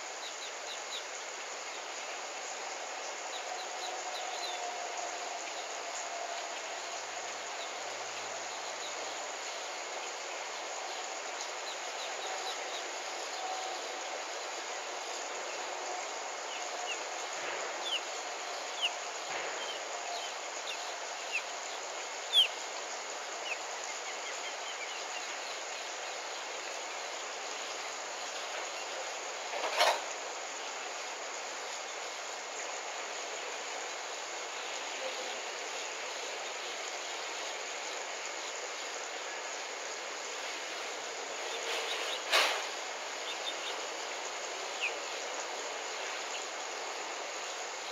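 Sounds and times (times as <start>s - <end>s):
outdoor background hiss: 0.0s - 47.9s.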